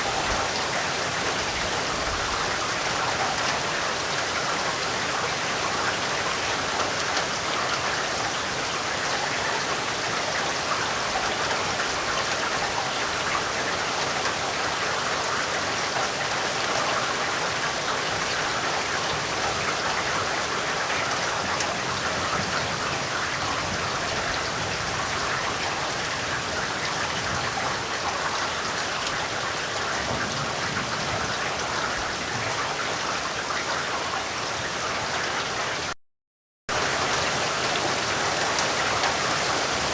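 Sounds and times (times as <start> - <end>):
steady rain falling: 0.0 - 36.0, 36.7 - 39.9.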